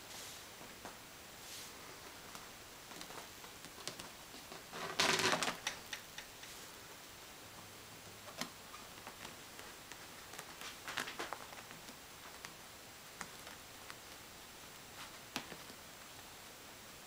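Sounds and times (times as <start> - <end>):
kittens scuffling: 0.0 - 6.8, 7.5 - 16.2.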